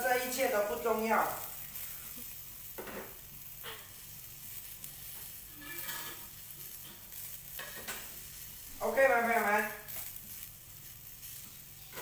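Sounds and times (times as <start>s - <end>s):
chicken sizzling in wok: 0.0s - 12.0s
sharp crackles: 0.0s - 12.0s.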